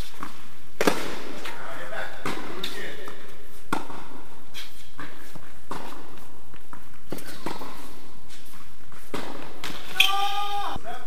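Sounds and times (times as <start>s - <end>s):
shoes moving on court: 0.0s - 10.8s.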